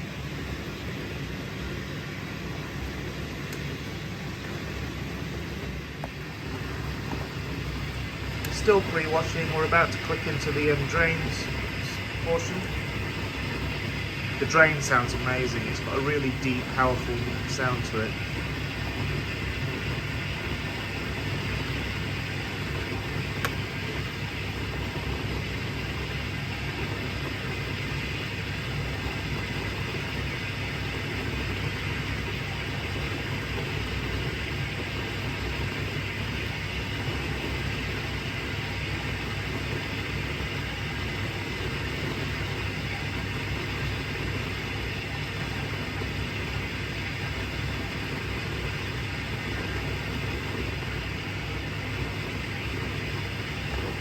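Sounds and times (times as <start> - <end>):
dishwasher pump humming: 0.0 - 54.0.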